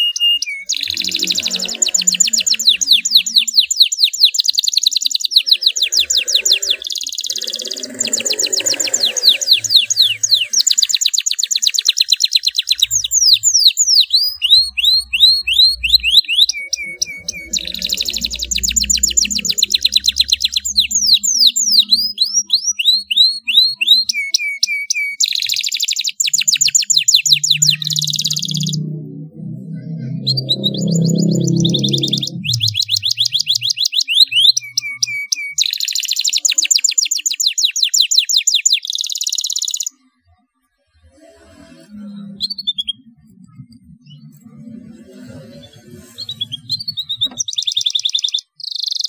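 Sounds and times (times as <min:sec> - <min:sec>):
canary singing: 0:00.0 - 0:40.2, 0:41.2 - 0:49.0.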